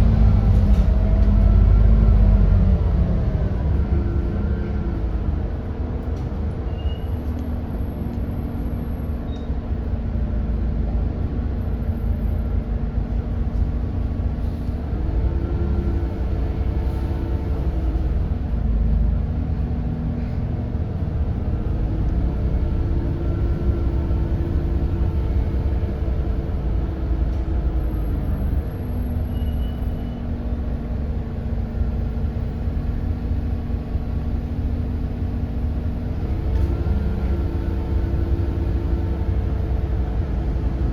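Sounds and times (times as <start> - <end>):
bus engine rumbling: 0.0 - 40.9.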